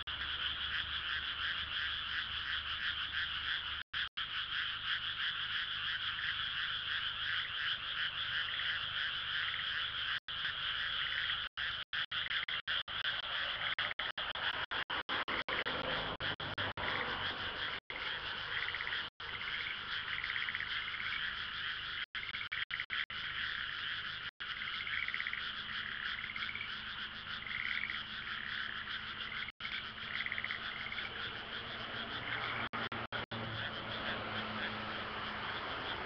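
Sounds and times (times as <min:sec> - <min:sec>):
frogs croaking: 0:00.0 - 0:36.0
single pulsed frog croaks: 0:00.0 - 0:36.0.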